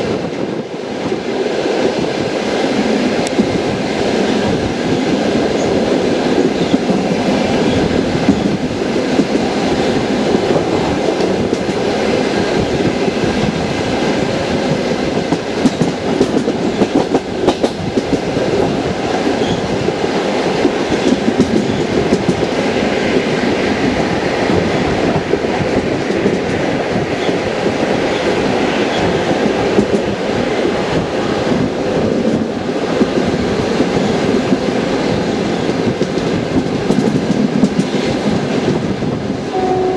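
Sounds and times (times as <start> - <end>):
train wheels clattering on rails: 0.0 - 39.6.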